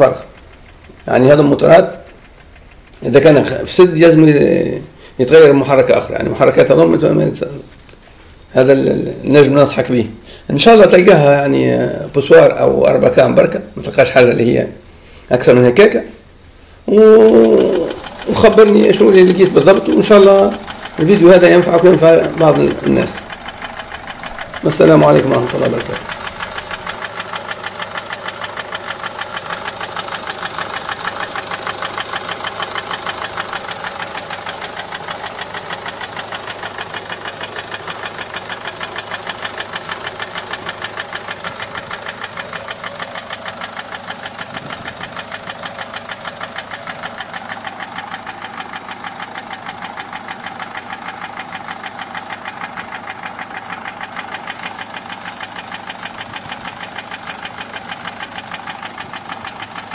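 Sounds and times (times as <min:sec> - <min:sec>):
engine ticking knock: 0:00.0 - 0:07.8, 0:17.0 - 0:59.9
diesel engine idling: 0:00.0 - 0:59.9.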